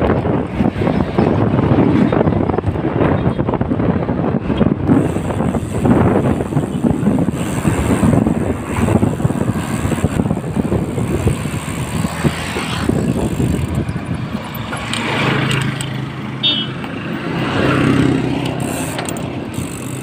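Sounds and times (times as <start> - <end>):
bicycle tyres on concrete: 0.0 - 20.0
motor traffic passing: 0.0 - 20.0
wind rushing over microphone: 0.0 - 20.0.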